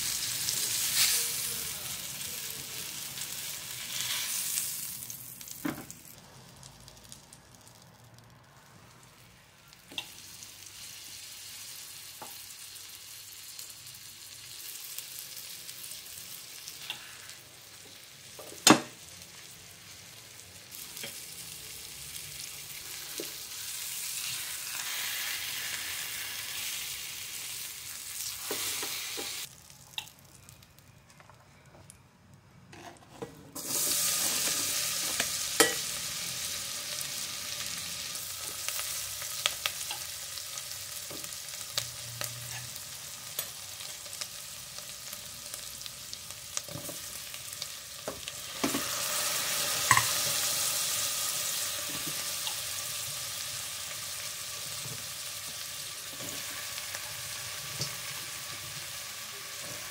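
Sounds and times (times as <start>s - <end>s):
meat sizzling in a pan: 0.0s - 30.2s, 33.6s - 59.9s.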